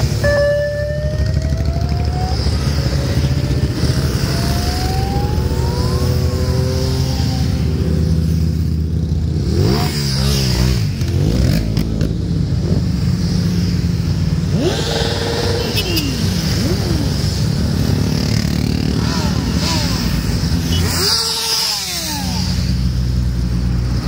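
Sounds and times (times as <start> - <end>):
motorcycles riding past: 0.8 - 24.0.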